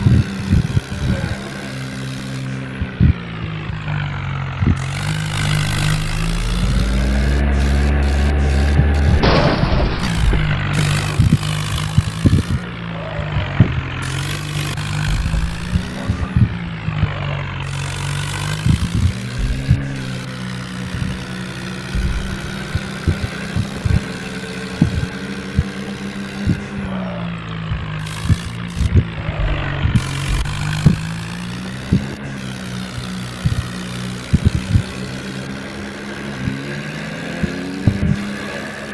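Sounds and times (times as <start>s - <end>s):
knocks and rattles: 0.0s - 26.8s, 27.4s - 38.9s
tractor engine running: 0.0s - 38.9s.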